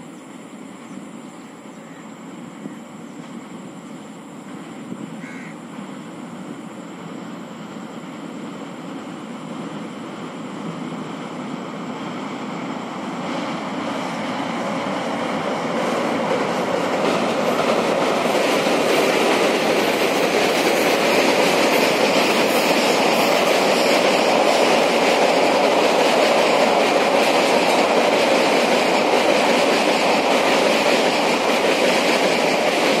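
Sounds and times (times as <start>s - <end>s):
train crossing steel bridge: 0.0s - 33.0s.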